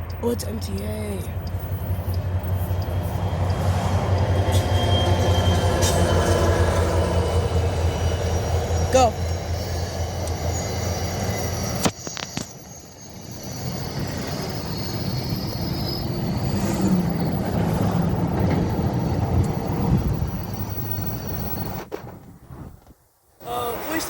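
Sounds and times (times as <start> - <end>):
train passing: 0.0 - 22.5, 23.4 - 24.0.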